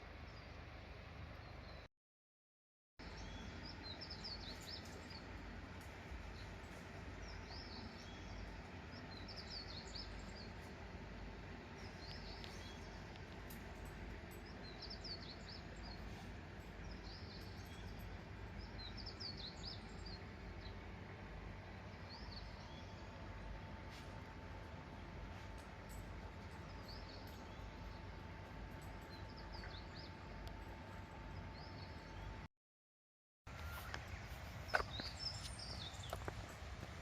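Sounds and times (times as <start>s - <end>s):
songbird chirping: 3.0s - 32.5s, 33.5s - 37.0s.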